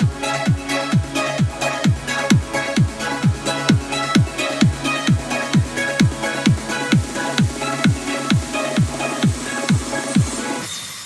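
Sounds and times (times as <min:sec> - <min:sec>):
crisp hi-hats: 0:00.0 - 0:10.6
steady kick drum: 0:00.0 - 0:10.6
sustained synth chords: 0:00.0 - 0:10.6
electronic dance music: 0:00.0 - 0:11.0.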